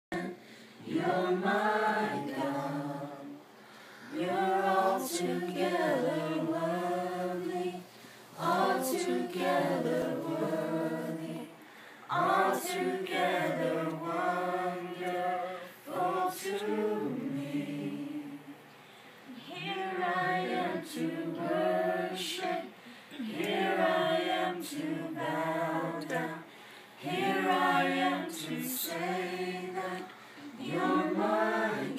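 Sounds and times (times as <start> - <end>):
group singing unaccompanied: 0.1 - 18.7, 19.3 - 31.9.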